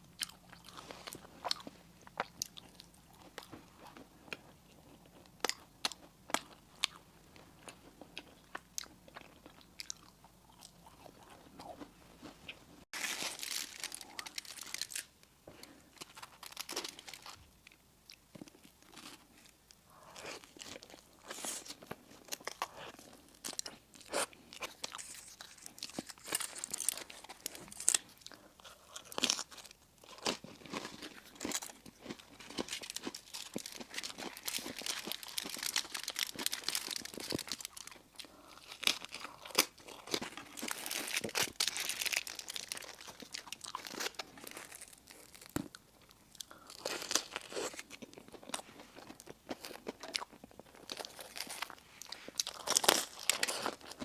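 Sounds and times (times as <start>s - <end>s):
crunching and chewing pastry: 0.0s - 54.0s.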